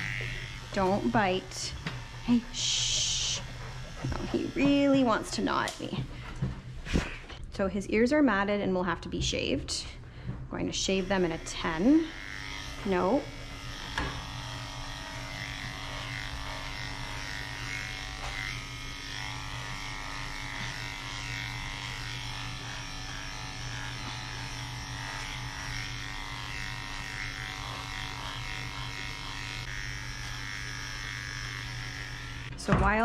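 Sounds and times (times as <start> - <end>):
electric clippers humming: 0.0 - 6.4, 10.7 - 33.0.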